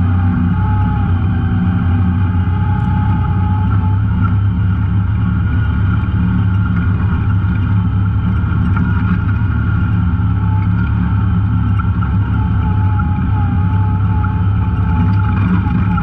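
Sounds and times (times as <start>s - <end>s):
off-road vehicle engine: 0.0s - 16.0s
thin steady whine: 0.0s - 16.0s.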